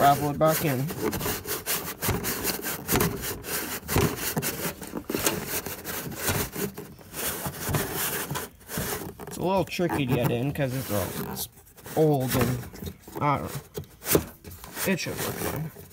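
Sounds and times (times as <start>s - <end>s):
plastic rubbing and scraping: 0.0s - 15.9s.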